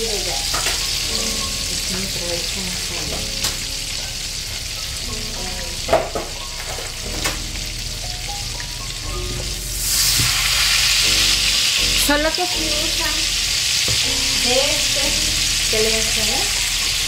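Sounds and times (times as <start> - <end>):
fat sizzling in a frying pan: 0.0 - 17.0.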